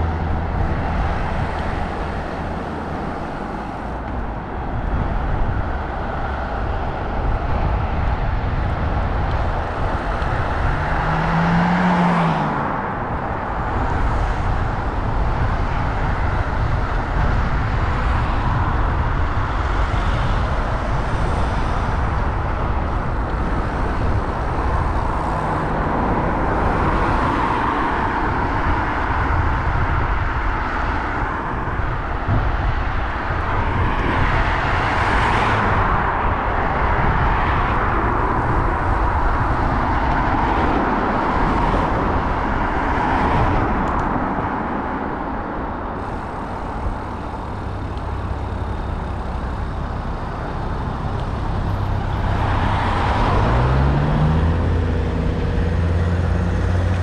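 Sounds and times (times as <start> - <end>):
vehicle on wet road: 0.0 - 57.0
wind on microphone: 0.0 - 57.0.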